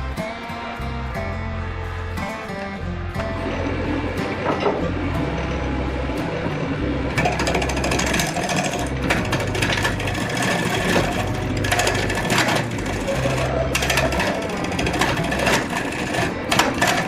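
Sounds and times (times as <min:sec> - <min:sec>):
wood lathe tool scraping wood: 0:02.2 - 0:17.0.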